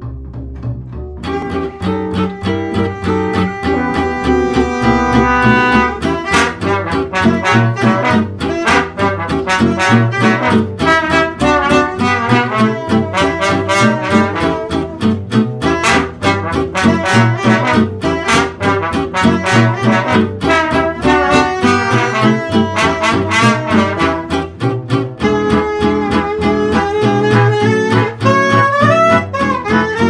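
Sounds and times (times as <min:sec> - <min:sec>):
instrumental background music: 0:00.0 - 0:30.0.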